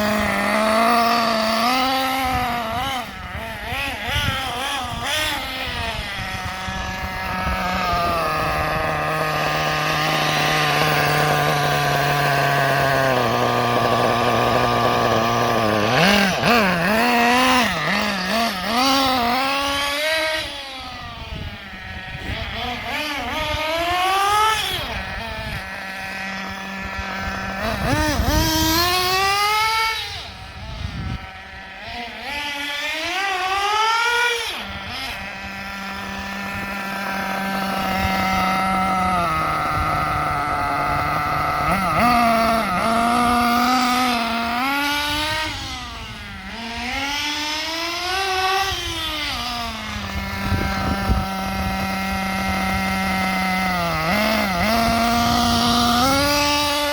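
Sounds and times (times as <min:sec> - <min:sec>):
nitro engine revving: 0:00.0 - 0:56.9.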